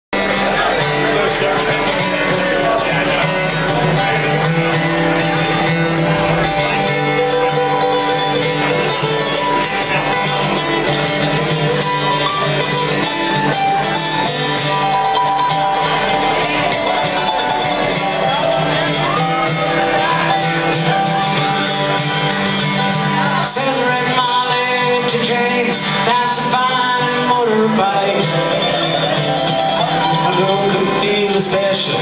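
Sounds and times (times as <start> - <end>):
bluegrass band playing: 0.2 - 32.0.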